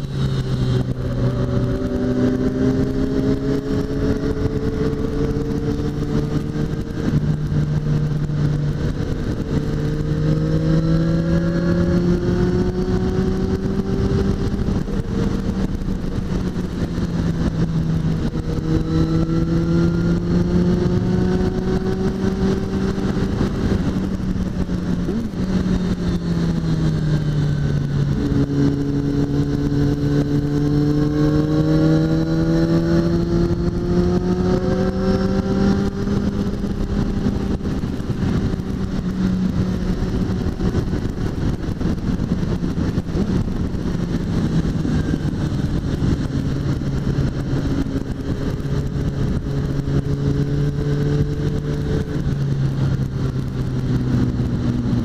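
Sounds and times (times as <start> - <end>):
motorcycle engine at speed: 0.0 - 55.0
wind noise: 0.0 - 55.0.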